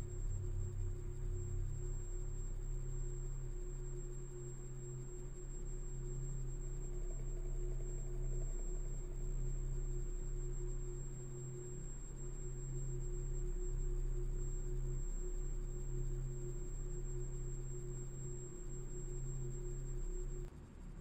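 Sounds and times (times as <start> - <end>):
eerie electronic drone: 0.0 - 20.5
thin high whine: 0.0 - 20.5.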